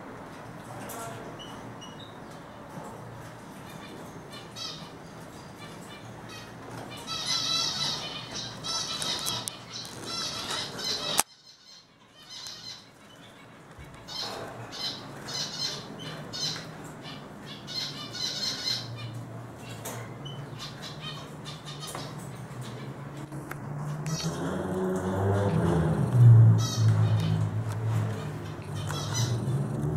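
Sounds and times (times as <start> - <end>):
birds twittering and singing: 0.4 - 29.9.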